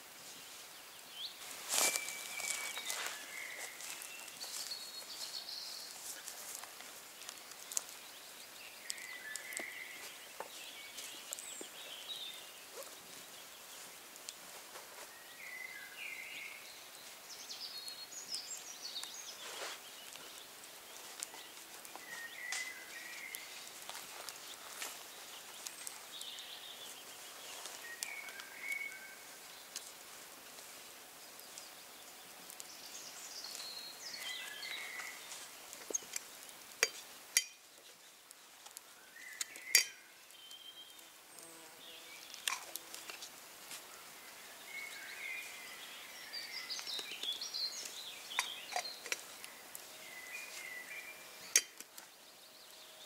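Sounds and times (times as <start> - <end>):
birds chirping and trilling: 0.0 - 30.0, 31.1 - 53.0.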